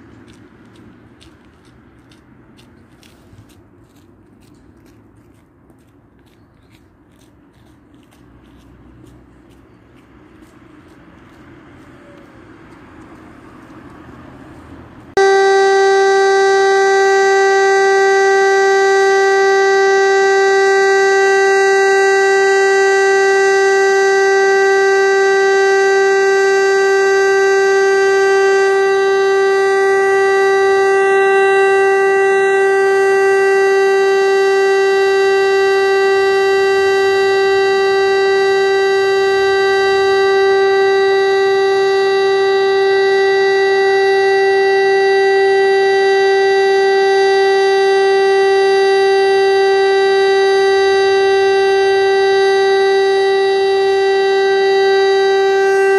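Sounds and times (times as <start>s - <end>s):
warning siren steady tone: 0.0s - 5.0s, 7.6s - 55.9s
faint outdoor background: 0.0s - 55.9s.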